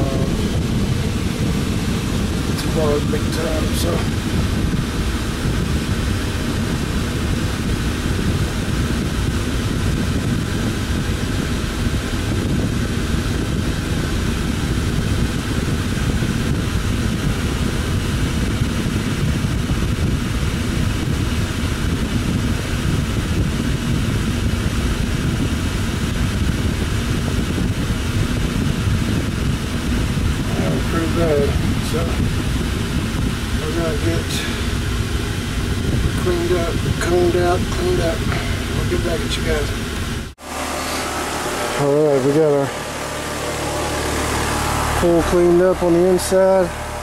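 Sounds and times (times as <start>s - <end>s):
ventilation fan rushing air: 0.0s - 47.0s.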